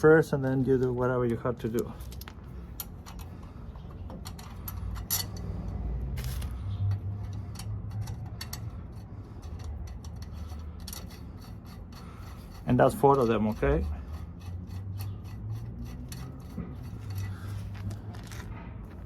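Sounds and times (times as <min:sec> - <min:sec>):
low background rumble: 0:00.0 - 0:19.0
light metal clicks and scraping: 0:00.6 - 0:19.0.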